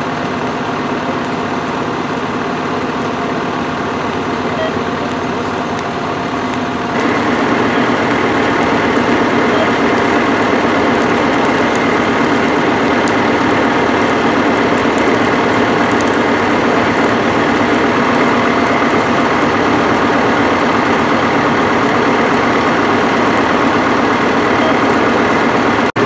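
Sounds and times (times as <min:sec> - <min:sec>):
heavy engine droning: 0:00.0 - 0:26.0.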